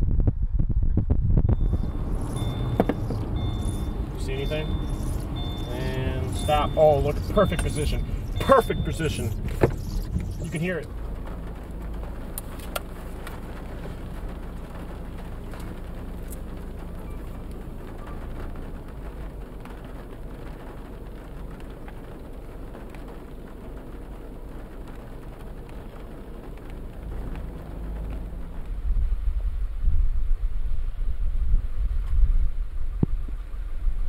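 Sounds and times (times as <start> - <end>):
low storm rumble: 0.0 - 34.0
wind: 0.0 - 34.0
light rain: 1.5 - 34.0.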